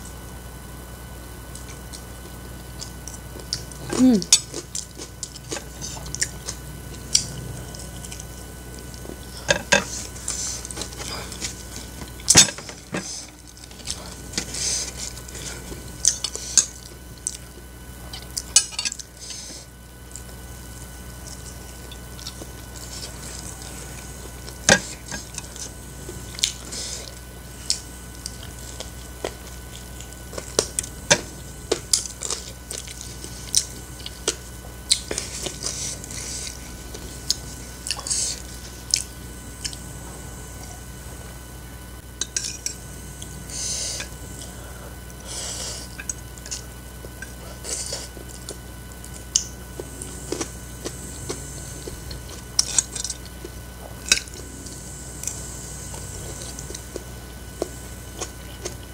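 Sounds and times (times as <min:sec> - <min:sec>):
crispy fried chicken chewing: 0:01.4 - 0:40.9, 0:42.2 - 0:58.9.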